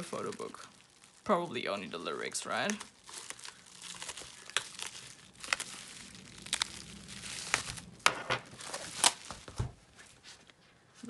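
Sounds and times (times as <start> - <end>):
bubble wrap crinkling and tearing: 0.0 - 10.2.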